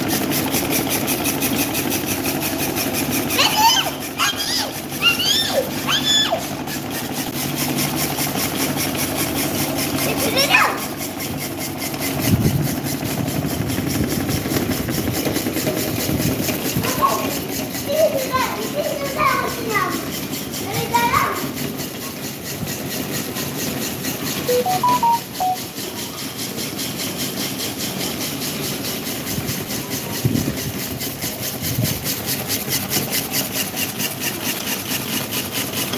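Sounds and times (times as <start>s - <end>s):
electric fans running: 0.0s - 35.9s.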